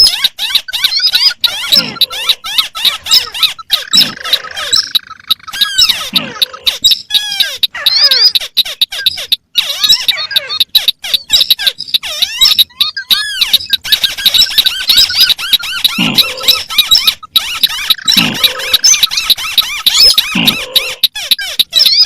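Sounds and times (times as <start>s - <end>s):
crakes chirping and clicking: 0.0s - 22.0s.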